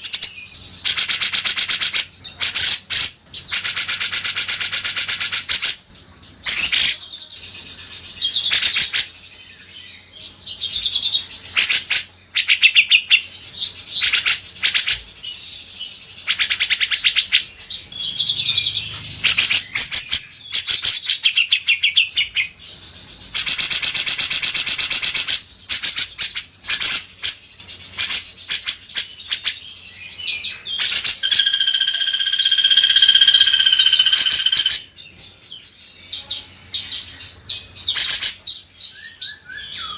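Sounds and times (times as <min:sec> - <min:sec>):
songbird chattering trills and whistles: 0:00.0 - 0:39.9.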